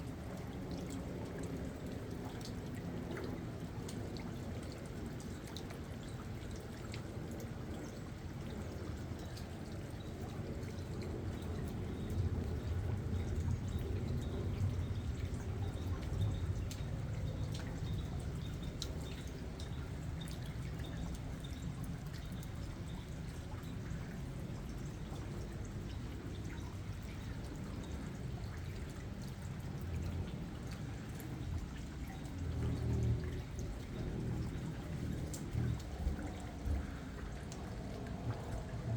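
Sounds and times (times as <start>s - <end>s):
drips ticking: 0.0s - 38.9s
steady rain: 0.0s - 38.9s.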